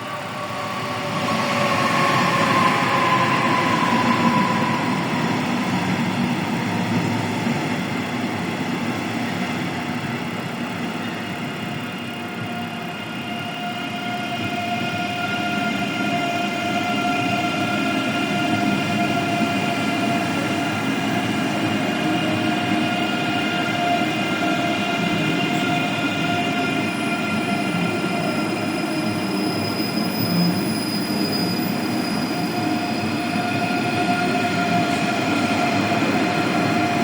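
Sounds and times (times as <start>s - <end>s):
train rolling on rails: 0.0s - 37.0s.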